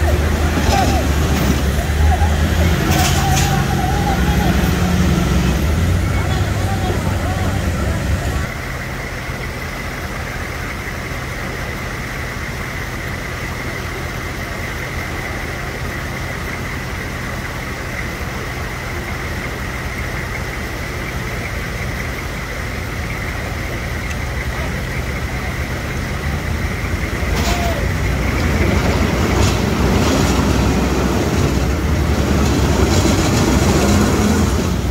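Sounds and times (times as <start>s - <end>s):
vehicle engines under load: 0.0s - 34.9s.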